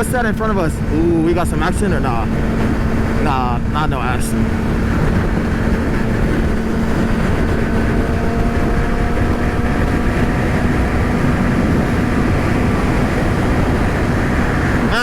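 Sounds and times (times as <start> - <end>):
motorcycle engine cruising: 0.0 - 15.0
wind rush on microphone: 0.0 - 15.0.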